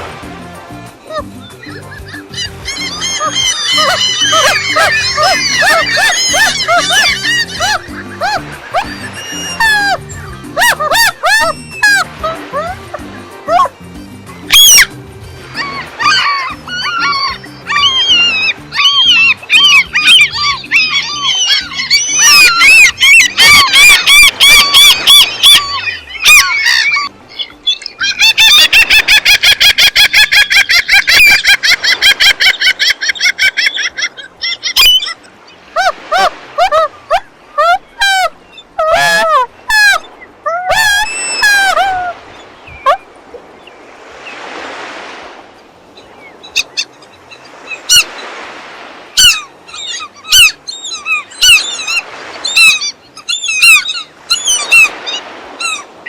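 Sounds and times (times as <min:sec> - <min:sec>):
gulls calling: 0:00.0 - 0:56.0.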